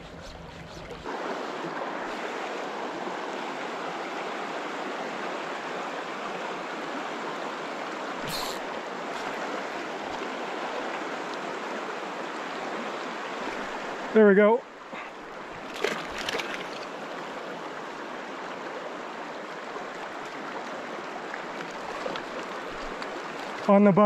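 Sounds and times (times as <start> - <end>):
river rushing over rocks: 1.0 - 23.8.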